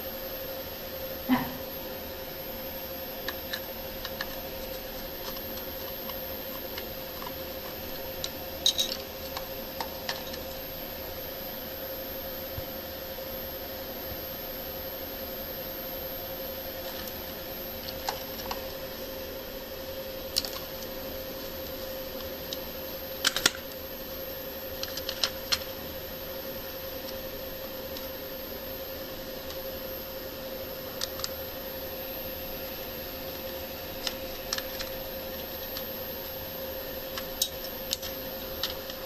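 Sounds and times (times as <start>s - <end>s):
faint high whine: 0.0s - 39.0s
steady hum: 0.0s - 39.0s.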